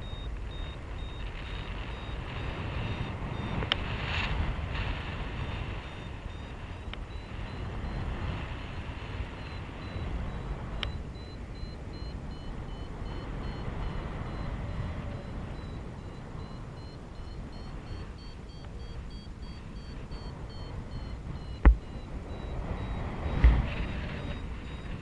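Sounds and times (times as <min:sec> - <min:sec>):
variometer beeping: 0:00.0 - 0:25.0
wind rushing past microphone: 0:00.0 - 0:25.0.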